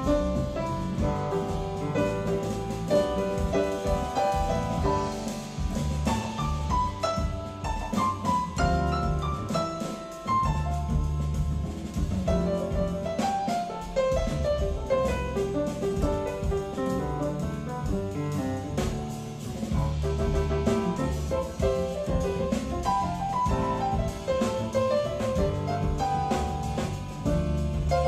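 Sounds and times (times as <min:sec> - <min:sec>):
double bass: 0:00.0 - 0:28.0
drum kit: 0:00.0 - 0:28.0
piano notes: 0:00.0 - 0:28.0.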